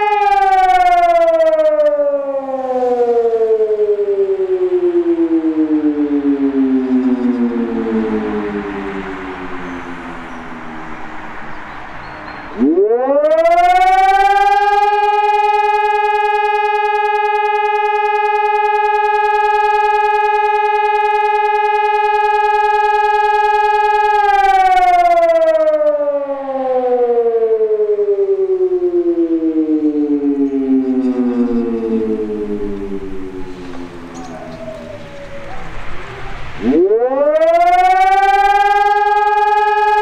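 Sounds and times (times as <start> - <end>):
electronic siren wailing: 0.0 - 40.0.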